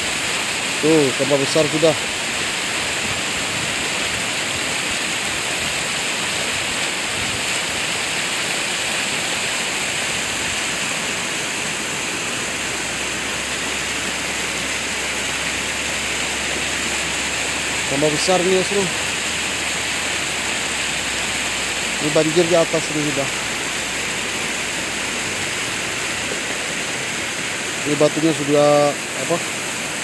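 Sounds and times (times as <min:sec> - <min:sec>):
floodwater rushing down a river: 0:00.0 - 0:30.0.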